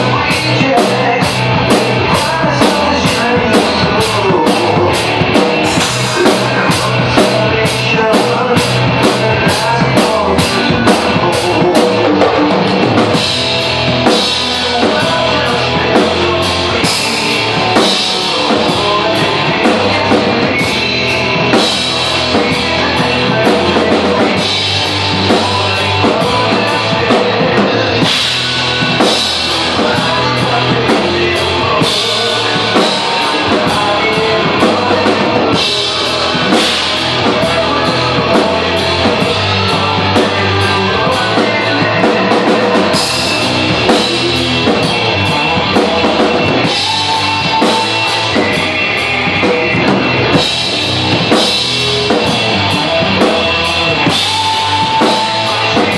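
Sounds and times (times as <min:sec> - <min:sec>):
drum kit rock beat: 0:00.0 - 0:55.9
rock music with guitar: 0:00.0 - 0:55.9.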